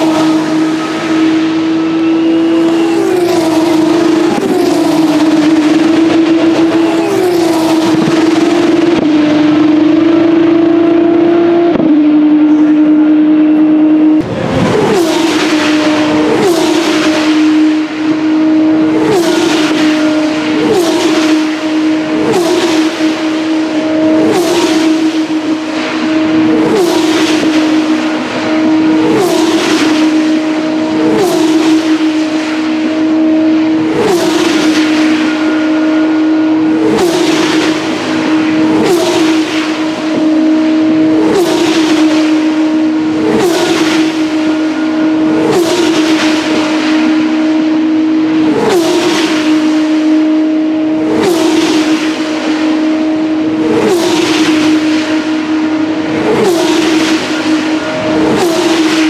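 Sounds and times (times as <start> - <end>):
race car engines at high revs: 0.0 - 59.0.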